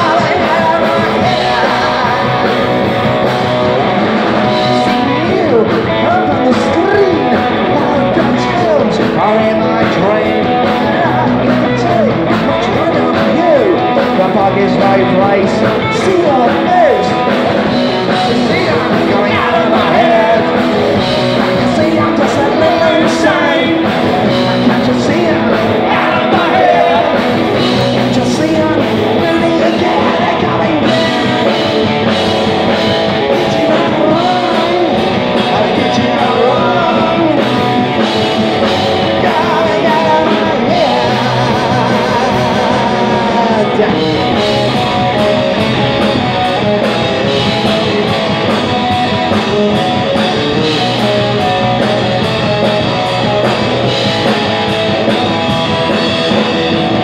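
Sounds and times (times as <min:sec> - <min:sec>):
person singing: 0:00.0 - 0:48.8
punk rock band playing: 0:00.0 - 0:57.0.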